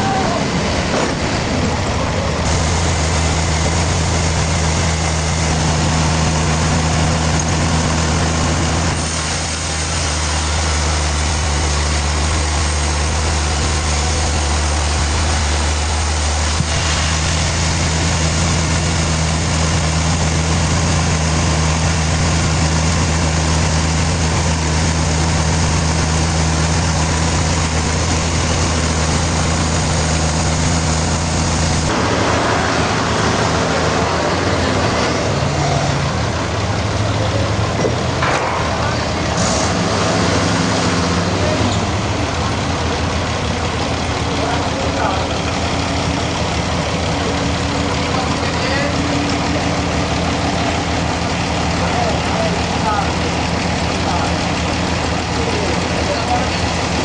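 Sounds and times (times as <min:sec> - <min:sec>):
engine low hum: 0:00.0 - 0:57.0
sawmill mechanical noise: 0:00.0 - 0:57.0.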